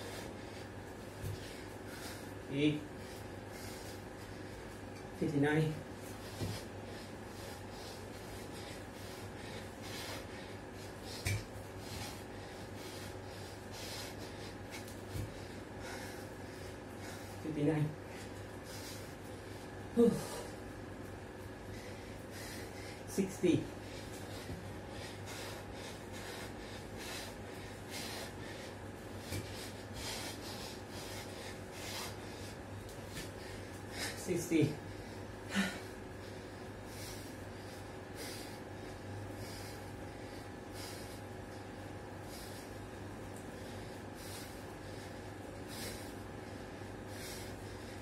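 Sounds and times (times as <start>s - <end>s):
man breathing hard: 0.0s - 5.2s, 5.8s - 20.7s, 21.4s - 48.0s
steady low hum: 0.0s - 48.0s.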